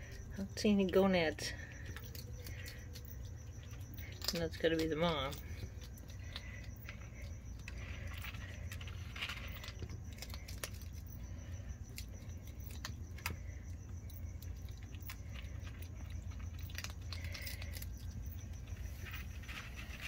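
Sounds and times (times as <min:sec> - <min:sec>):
steady low hum: 0:00.0 - 0:20.0
animal chewing crunches: 0:01.6 - 0:20.0.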